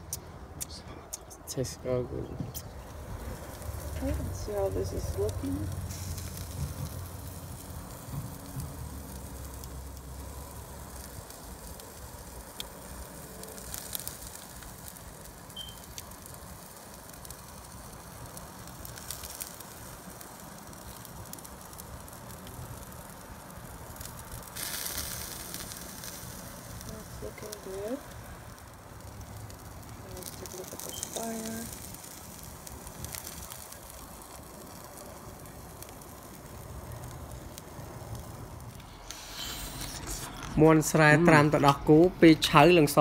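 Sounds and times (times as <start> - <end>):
chicken sizzling on grill: 2.6 - 40.2.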